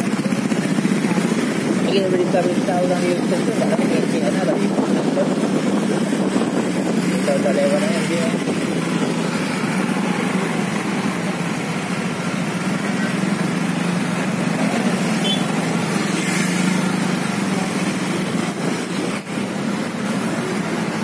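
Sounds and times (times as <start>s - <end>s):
motorcycle engines running: 0.0s - 21.0s
road noise: 0.0s - 21.0s.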